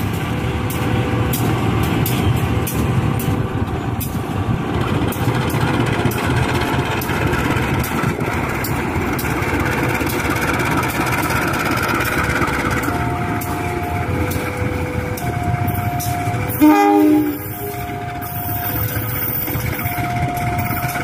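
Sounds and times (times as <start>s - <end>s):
locomotive engine low rumble: 0.0s - 21.0s.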